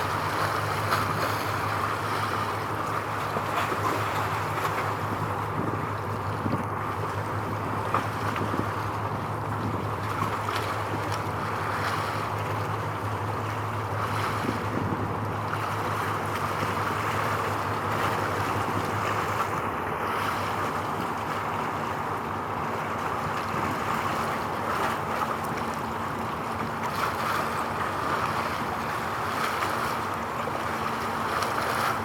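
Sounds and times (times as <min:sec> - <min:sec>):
low engine hum: 0:00.0 - 0:32.0
water noise: 0:00.0 - 0:32.0
wind: 0:00.0 - 0:32.0.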